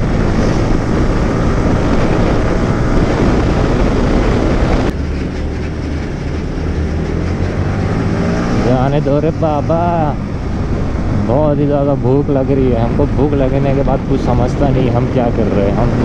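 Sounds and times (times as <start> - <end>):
motorcycle engine: 0.0 - 16.0
wind rushing on microphone: 0.0 - 16.0.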